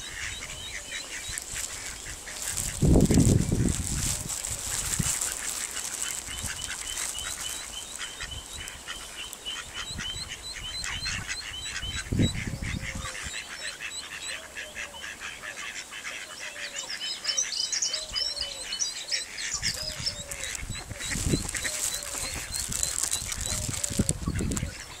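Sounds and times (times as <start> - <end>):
adult ducks calling: 0.0 - 25.0
duckling peeping: 0.0 - 25.0.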